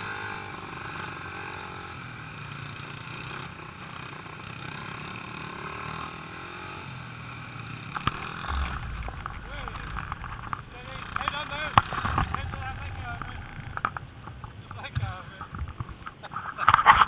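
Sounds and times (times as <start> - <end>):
pit bike engines revving: 0.0 - 17.0.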